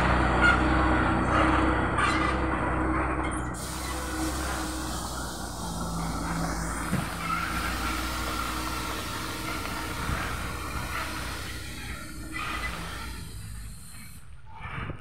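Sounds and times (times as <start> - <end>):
truck diesel engine humming: 0.0 - 14.4.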